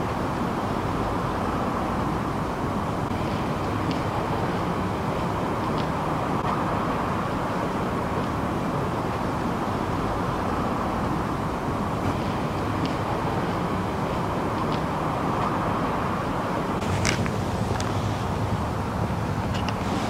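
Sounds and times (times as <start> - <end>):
outdoor background rumble: 0.0 - 20.0.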